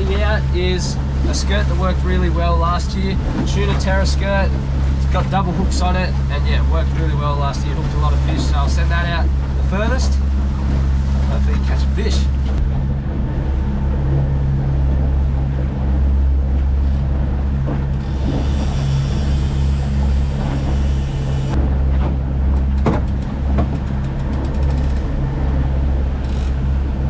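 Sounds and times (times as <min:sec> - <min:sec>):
boat motor humming: 0:00.0 - 0:27.0
water wash from wake: 0:00.0 - 0:27.0.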